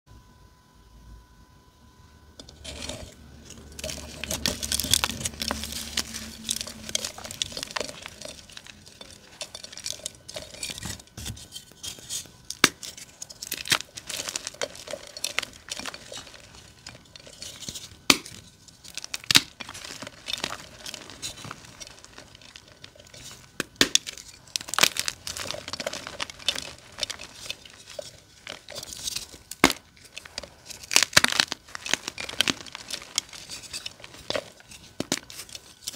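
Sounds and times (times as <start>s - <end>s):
chalk crunching by hand: 2.6s - 35.9s
chalk pieces snapping: 3.7s - 35.9s.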